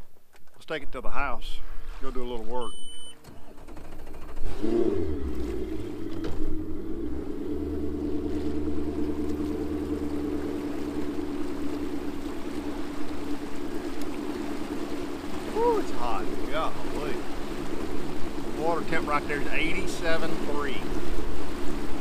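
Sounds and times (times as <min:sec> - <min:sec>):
outboard motor running: 0:03.2 - 0:22.0.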